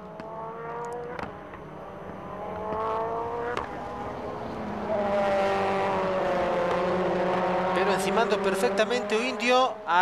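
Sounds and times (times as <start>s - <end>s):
race car engines at full throttle: 0.0s - 10.0s
race car passing by: 0.0s - 10.0s.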